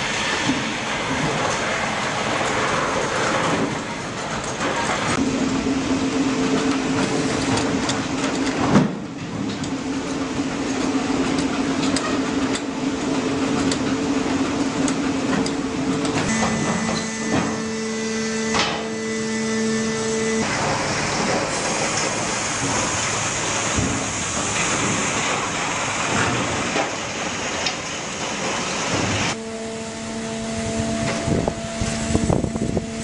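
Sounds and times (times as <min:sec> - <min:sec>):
steady motor hum: 0:00.0 - 0:33.0.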